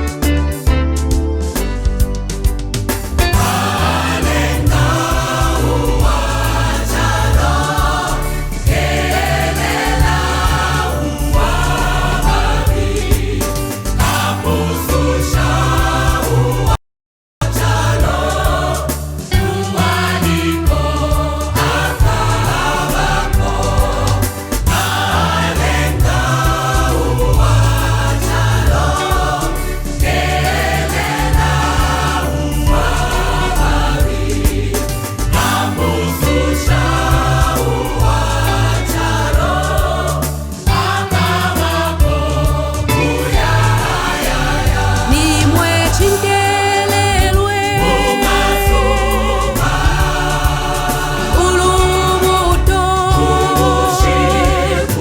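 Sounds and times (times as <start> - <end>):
band with heavy bass: 0.0 - 16.8, 17.4 - 55.0
choir singing gospel: 3.0 - 16.8, 17.4 - 55.0.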